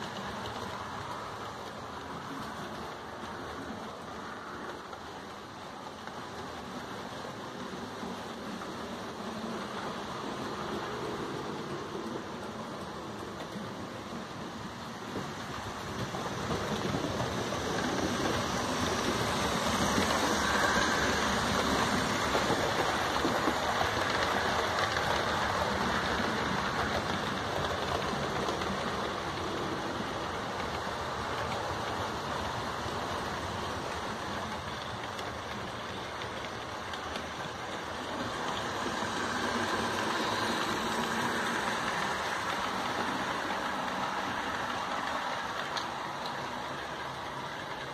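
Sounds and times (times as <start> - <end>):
model train whirring on track: 0.0 - 47.9.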